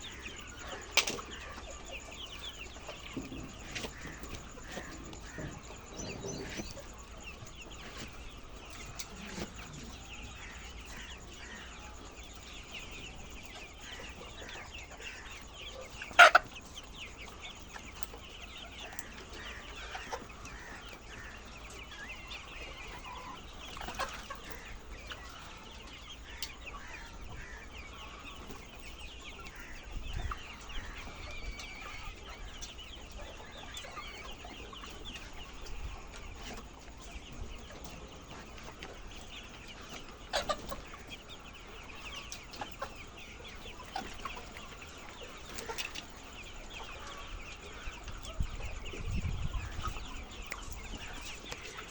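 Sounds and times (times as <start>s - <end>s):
hens clucking: 0.0s - 51.9s.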